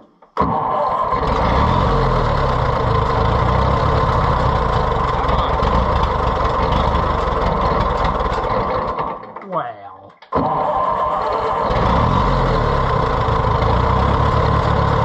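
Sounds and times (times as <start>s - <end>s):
tractor engine running: 0.4s - 9.4s, 10.4s - 15.0s.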